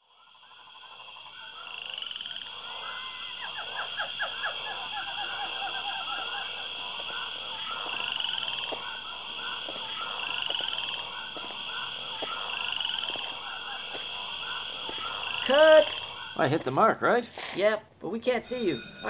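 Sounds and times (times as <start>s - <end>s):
frogs croaking: 0.0s - 17.5s.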